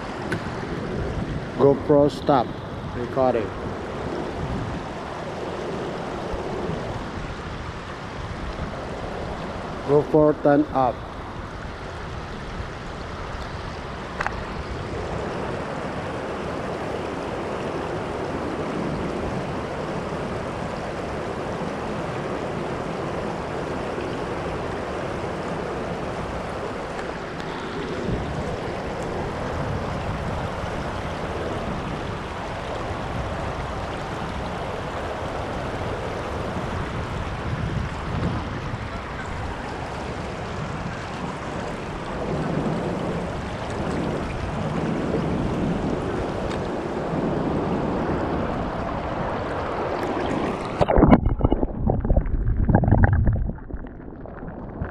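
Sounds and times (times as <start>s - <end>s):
water rushing over rocks: 0.0s - 54.9s.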